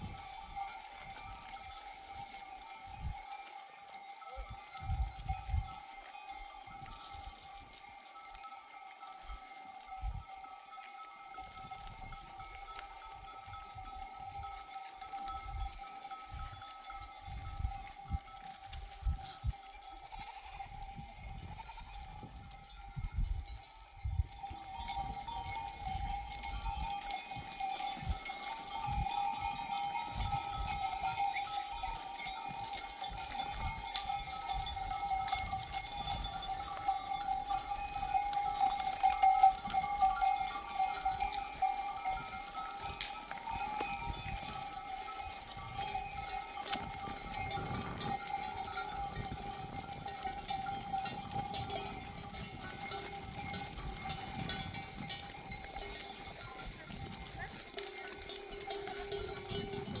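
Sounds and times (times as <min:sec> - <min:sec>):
sheep bells jangling: 0:00.0 - 1:00.0.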